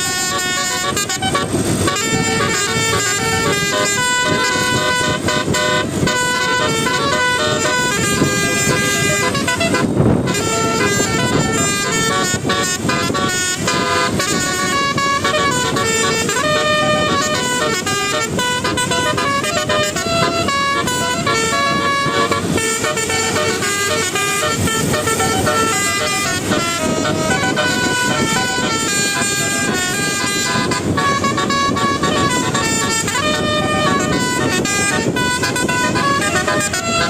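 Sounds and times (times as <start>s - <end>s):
musical air horn melody: 0.0s - 37.0s.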